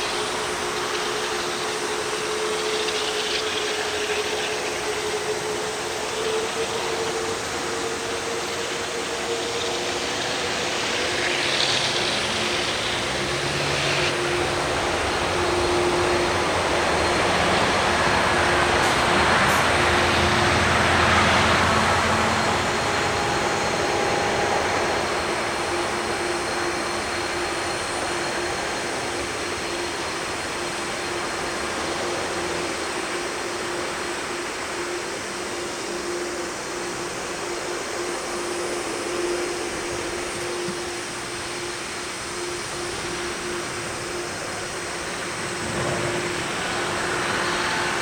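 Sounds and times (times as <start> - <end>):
jet engines roaring at takeoff: 0.0 - 48.0.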